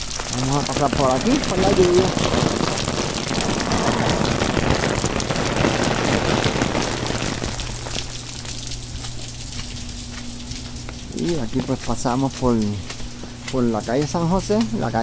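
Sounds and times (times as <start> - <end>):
low steady hum: 0.0 - 15.0
rain falling and splashing: 0.0 - 15.0.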